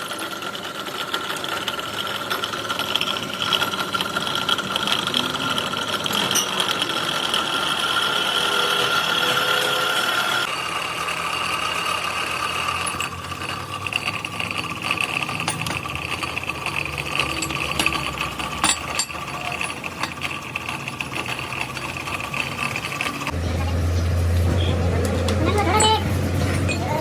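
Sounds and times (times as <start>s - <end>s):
metal lathe whining: 0.0s - 27.0s.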